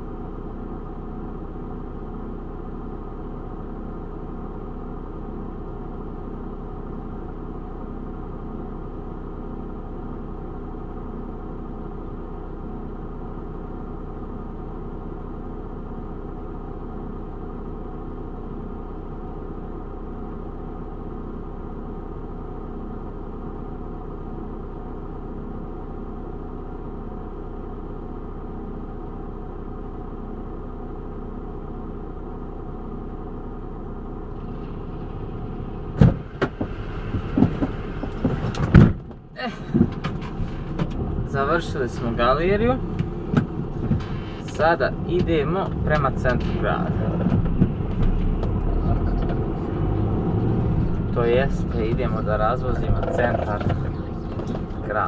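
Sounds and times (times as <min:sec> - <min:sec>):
van engine idling: 0:00.0 - 0:55.0.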